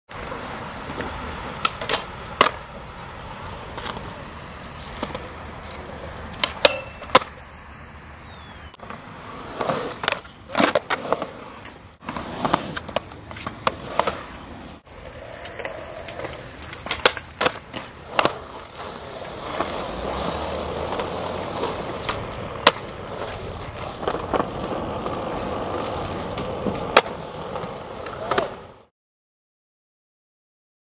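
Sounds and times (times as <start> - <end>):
skateboards clacking on concrete: 0.1 - 7.4, 8.7 - 28.9
skateboards rolling on concrete: 0.1 - 28.9.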